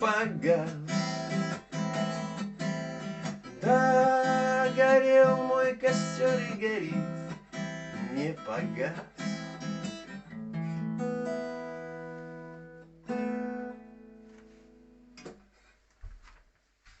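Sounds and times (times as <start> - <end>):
acoustic guitar chords: 0.0 - 15.2.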